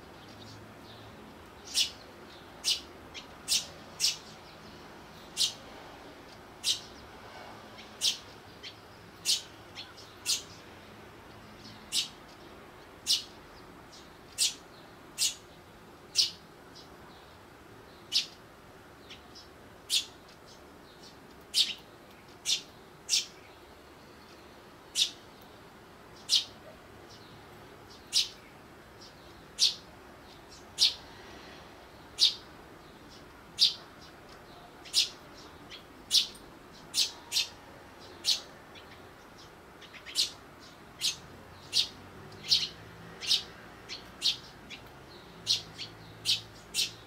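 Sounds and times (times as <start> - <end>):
sparrows chirping: 0.0 - 47.0.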